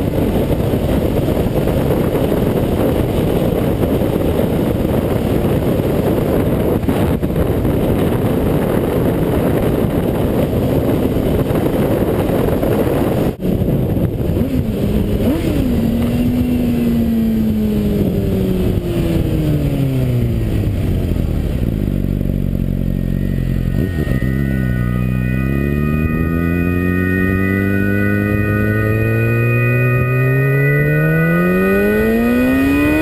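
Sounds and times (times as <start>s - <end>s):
motorcycle engine: 0.0s - 33.0s
wind rush: 0.0s - 33.0s.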